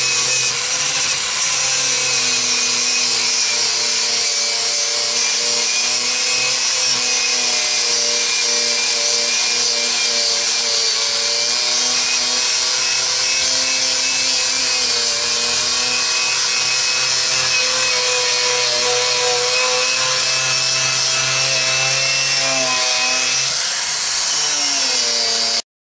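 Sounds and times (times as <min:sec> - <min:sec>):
angle grinder on metal: 0:00.0 - 0:25.7.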